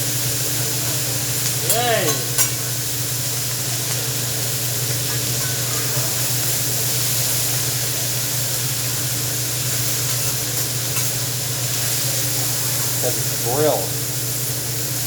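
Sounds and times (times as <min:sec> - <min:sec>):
food sizzling on a grill: 0:00.0 - 0:15.0.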